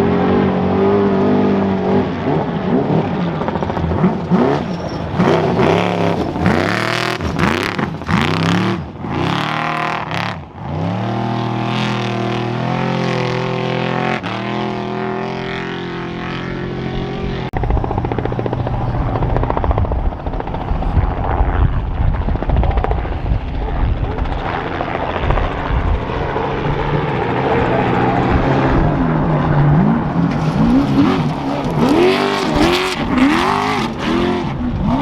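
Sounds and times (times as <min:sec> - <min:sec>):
race engine revving: 0:00.0 - 0:21.2, 0:22.4 - 0:35.0.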